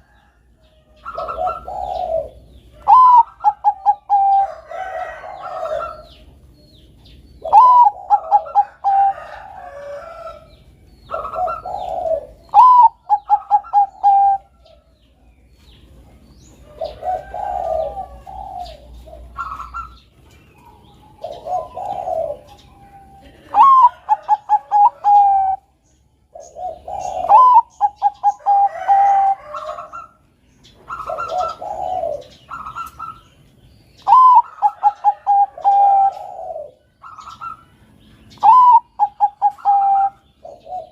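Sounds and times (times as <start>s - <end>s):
dove cooing: 0.0s - 15.0s, 15.9s - 33.4s, 34.0s - 40.9s.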